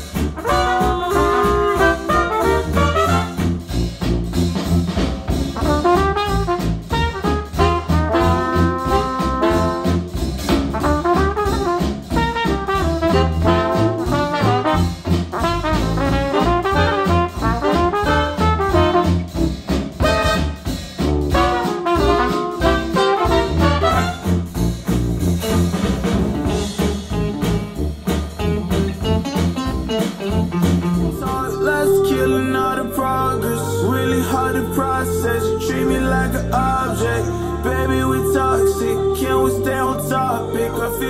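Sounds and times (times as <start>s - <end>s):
jazz tune with brass and bass: 0.0s - 41.0s.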